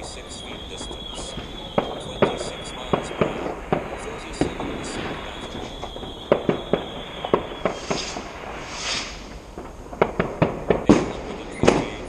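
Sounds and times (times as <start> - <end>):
high firework whistle: 0.0 - 9.5, 10.1 - 12.0
fireworks bangs and pops: 0.0 - 12.0.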